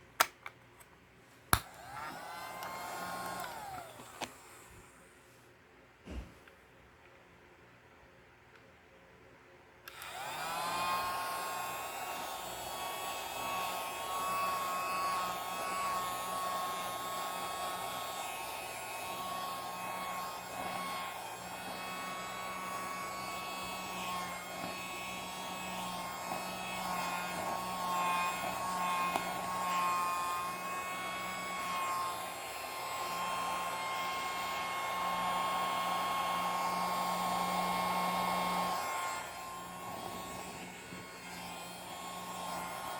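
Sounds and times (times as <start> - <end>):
mini vacuum cleaner whine: 1.5 - 5.0, 9.9 - 42.9.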